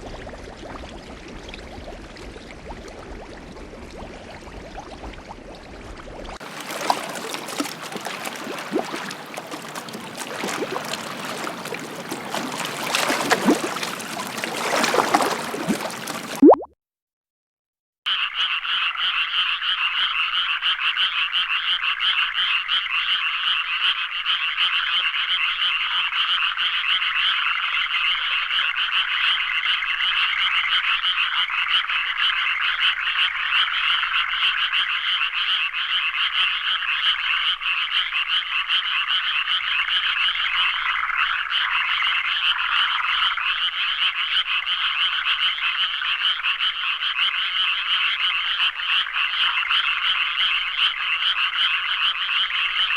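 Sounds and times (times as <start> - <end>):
chorus of frogs croaking: 6.4 - 16.4, 18.1 - 52.9.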